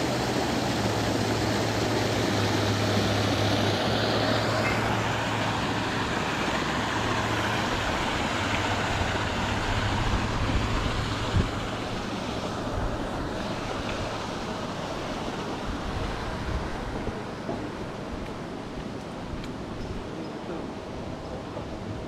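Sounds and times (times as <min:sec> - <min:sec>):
rushing outdoor noise: 0:00.0 - 0:22.0.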